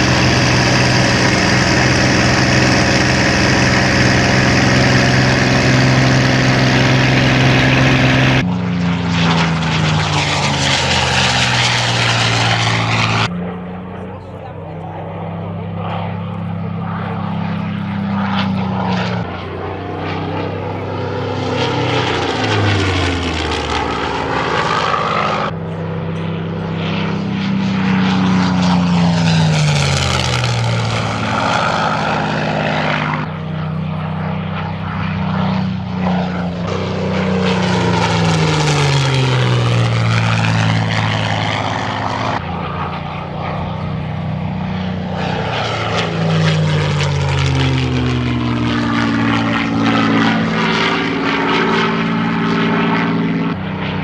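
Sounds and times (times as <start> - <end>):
propeller plane flying past: 0.0 - 54.0.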